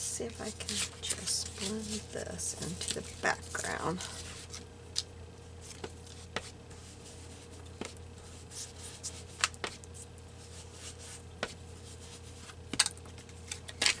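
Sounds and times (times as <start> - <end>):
steady low hum: 0.0 - 14.0
soft rubbing on paper: 0.2 - 4.7, 5.6 - 12.6.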